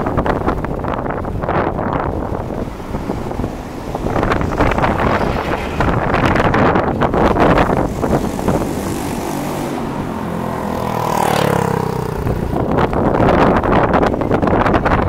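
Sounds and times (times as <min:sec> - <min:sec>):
vehicle passing by: 0:00.0 - 0:14.1
steady rushing noise: 0:00.0 - 0:15.0.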